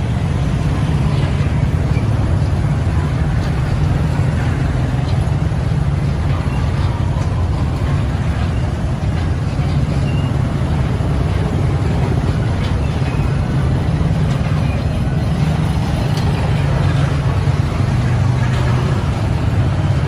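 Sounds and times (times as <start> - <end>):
haze of noise: 0.0 - 20.0
heavy engine rumbling: 0.0 - 20.0.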